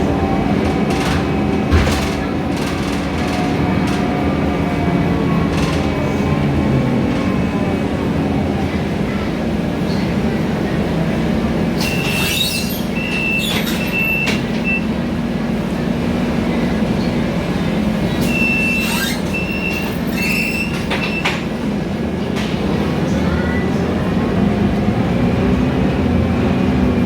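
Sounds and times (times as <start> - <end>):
bus engine drone: 0.0 - 27.0.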